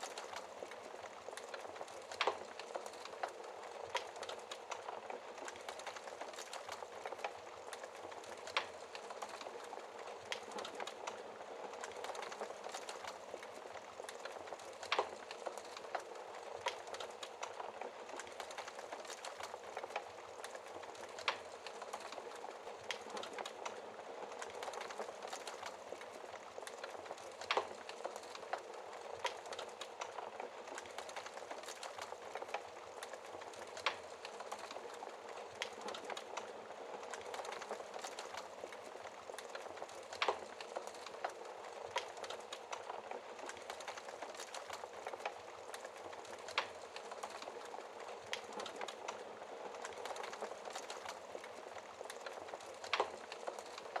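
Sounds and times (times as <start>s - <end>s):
burning logs popping: 0.0s - 54.0s
fire crackling: 0.0s - 54.0s.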